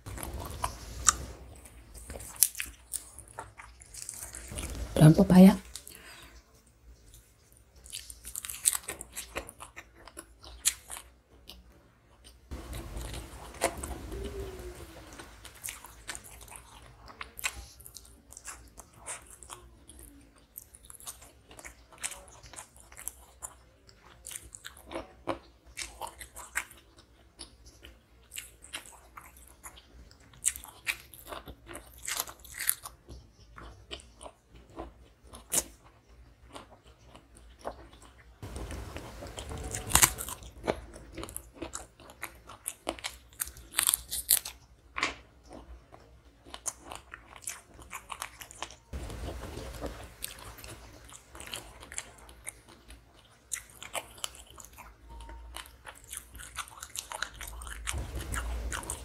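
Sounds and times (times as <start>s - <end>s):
crunching raw vegetables: 0.0s - 6.5s, 7.1s - 59.0s.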